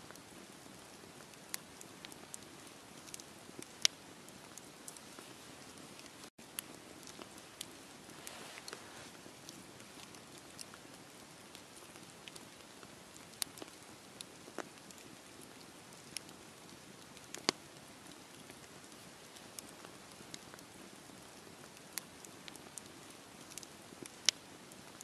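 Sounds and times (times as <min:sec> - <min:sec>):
wood fire crackling: 0:00.0 - 0:25.0
fire popping: 0:00.1 - 0:25.0.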